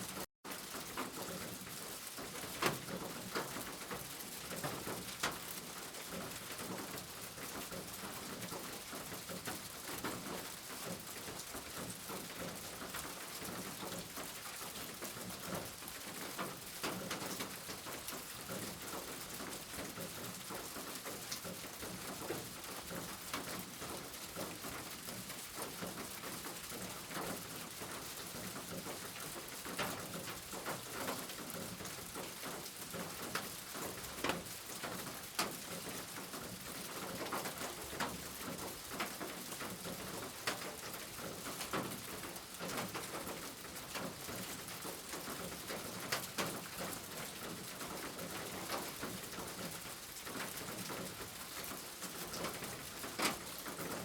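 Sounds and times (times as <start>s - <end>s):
steady rain hiss: 0.0s - 54.0s
raindrops ticking on hard surface: 0.1s - 54.0s.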